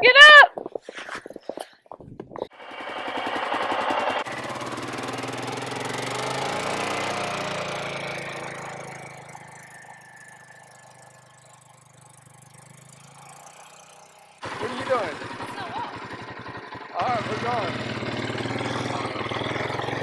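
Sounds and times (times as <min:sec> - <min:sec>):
atv engine puttering: 0:02.5 - 0:20.0.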